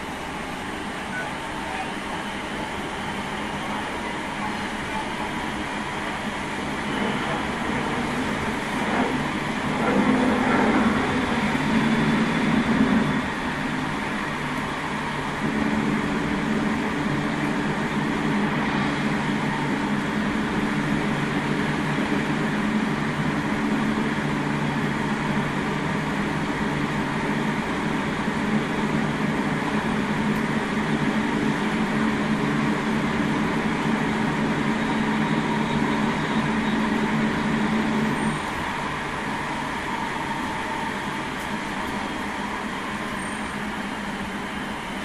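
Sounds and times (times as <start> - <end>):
electric train rumbling: 0.0 - 45.0.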